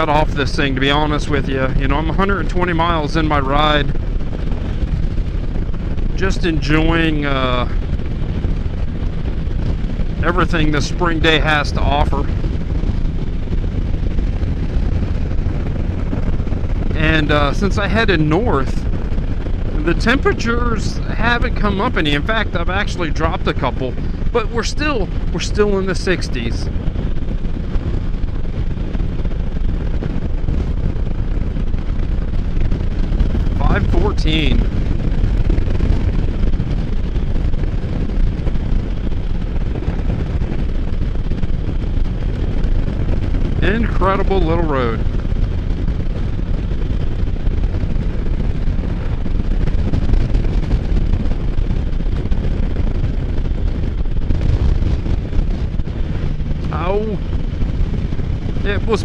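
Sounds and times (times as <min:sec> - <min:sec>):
engine low rumble: 0:00.0 - 0:59.0
wind buffeting on microphone: 0:00.0 - 0:59.0.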